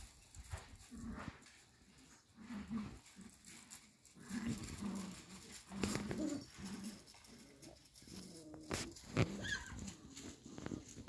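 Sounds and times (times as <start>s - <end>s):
puppies play growling: 0.8s - 11.0s.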